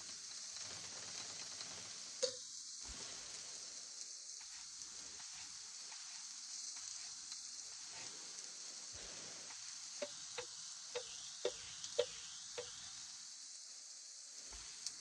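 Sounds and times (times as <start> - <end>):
onion sizzling in a frying pan: 0.0 - 1.2, 1.9 - 15.0.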